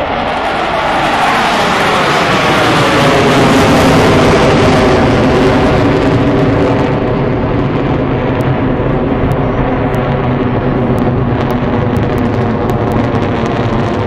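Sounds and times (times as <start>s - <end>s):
jets flying over: 0.0s - 14.0s.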